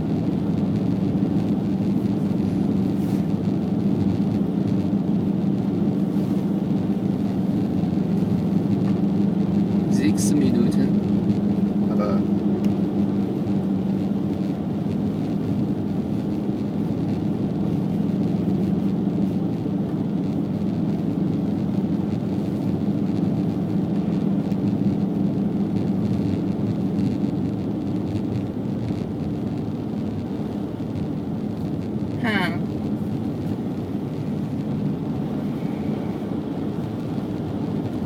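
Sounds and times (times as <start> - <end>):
car engine hum: 0.0 - 38.0
tyre and road noise: 0.0 - 38.0.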